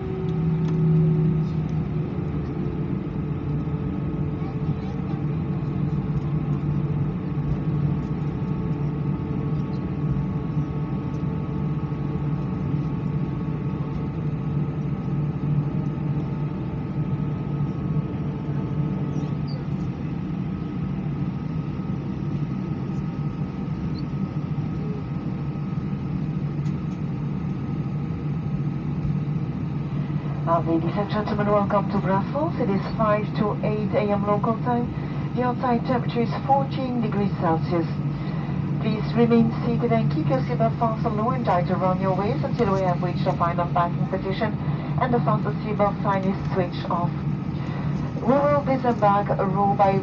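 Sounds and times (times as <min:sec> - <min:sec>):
aircraft cabin hum with tones: 0:00.0 - 0:50.0.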